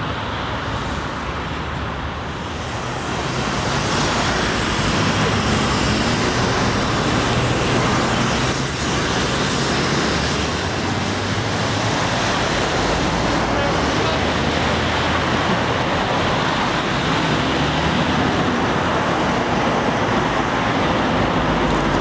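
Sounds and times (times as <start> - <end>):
train rushing: 0.0 - 22.0.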